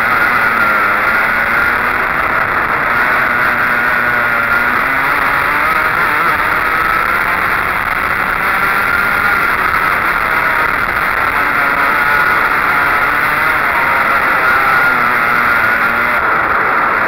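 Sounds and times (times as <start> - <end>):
go-kart engine running: 0.0 - 17.0
wind and road noise: 0.0 - 17.0.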